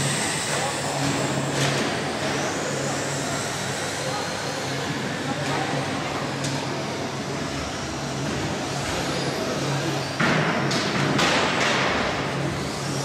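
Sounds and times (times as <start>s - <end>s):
rc trucks motor and tyre noise: 0.0s - 13.0s.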